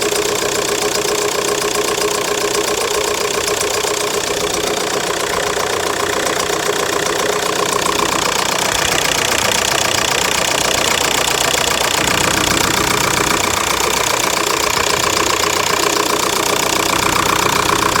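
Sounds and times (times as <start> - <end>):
diesel engine running: 0.0 - 18.0
rapid ticking clatter: 0.0 - 18.0.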